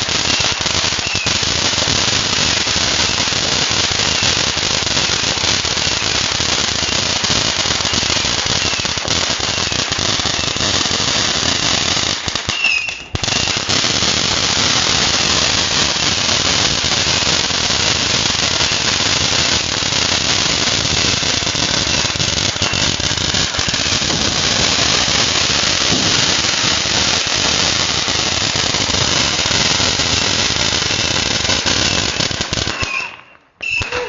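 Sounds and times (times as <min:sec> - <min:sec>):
fireworks popping and crackling: 0:00.0 - 0:34.0.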